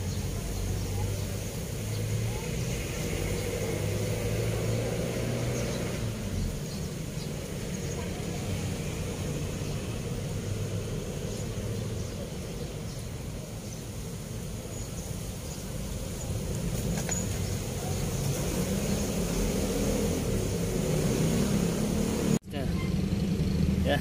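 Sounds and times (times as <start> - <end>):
traffic rumbling over a bridge: 0.0 - 24.0.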